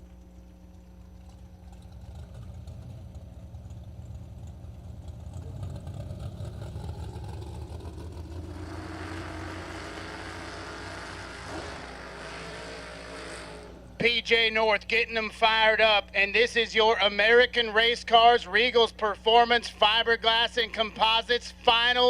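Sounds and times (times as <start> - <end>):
race car engines idling: 0.0 - 22.0.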